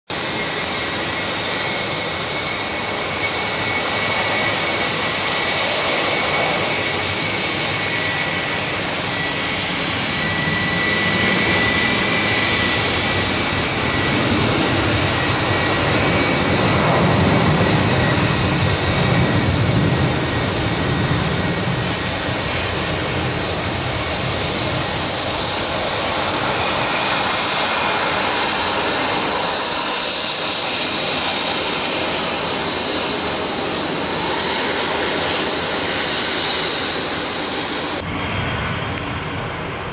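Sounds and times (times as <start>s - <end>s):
jet engines running: 0.1s - 39.9s.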